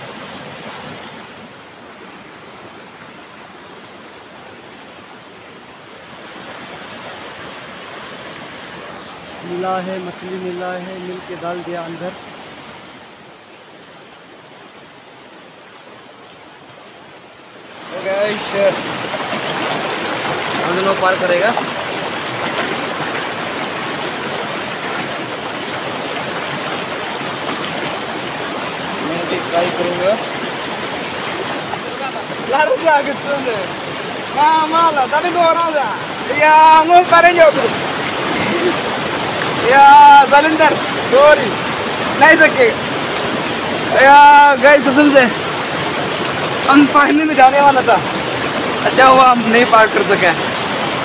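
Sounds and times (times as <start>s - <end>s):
river rushing through rapids: 0.0s - 51.0s.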